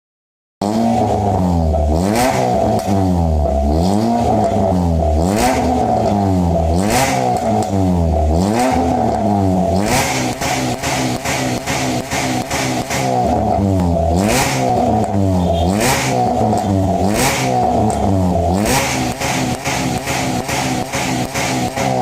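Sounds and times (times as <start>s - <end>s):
car engine revving: 0.6s - 22.0s.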